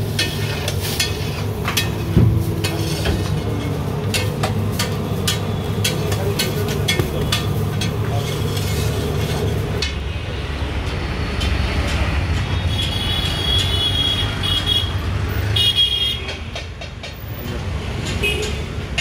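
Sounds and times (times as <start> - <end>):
traffic rumble: 0.0 - 15.7.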